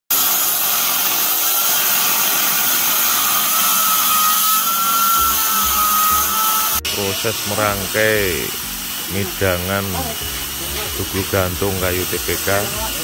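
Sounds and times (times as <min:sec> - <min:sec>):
circular saw cutting wood: 0:00.1 - 0:13.0.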